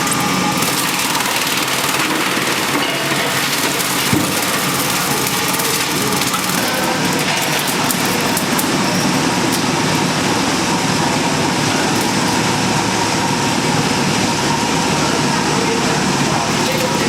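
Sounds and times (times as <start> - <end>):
wood chipper running: 0.0 - 17.0.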